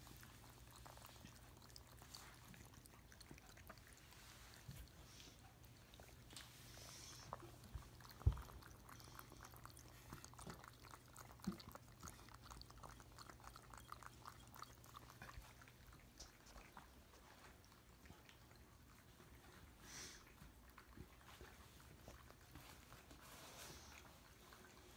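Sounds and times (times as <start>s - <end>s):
cats lapping water: 0.0s - 24.9s.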